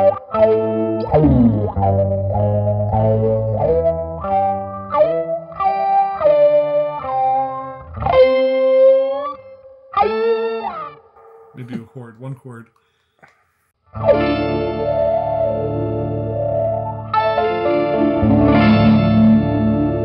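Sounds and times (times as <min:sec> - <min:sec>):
electric guitar chords with filter sweep: 0:00.0 - 0:11.6, 0:13.9 - 0:20.0.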